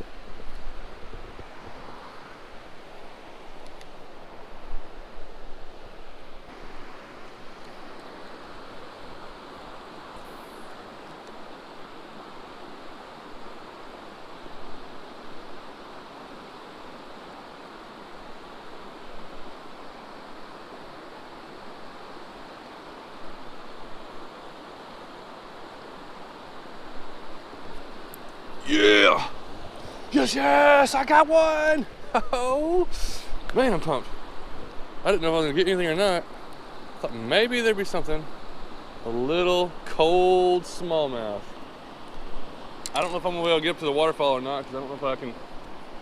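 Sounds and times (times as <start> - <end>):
creek water rushing over rocks: 0.0 - 46.0.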